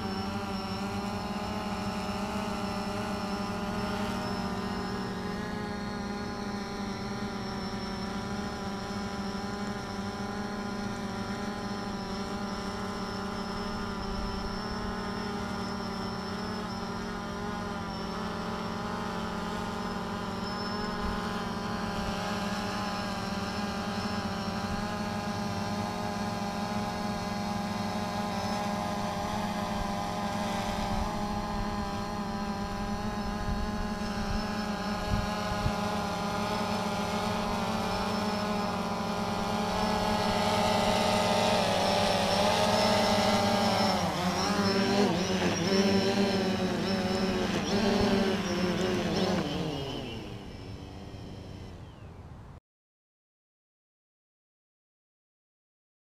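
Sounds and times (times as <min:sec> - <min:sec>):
drone buzzing whine: 0:00.0 - 0:52.6.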